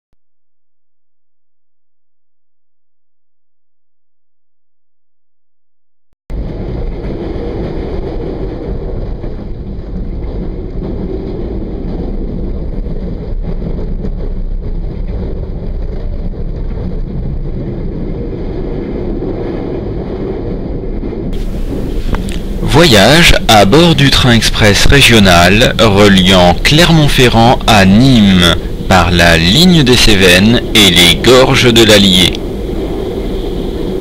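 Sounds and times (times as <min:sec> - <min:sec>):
train rumbling from on board: 0:06.3 - 0:34.0.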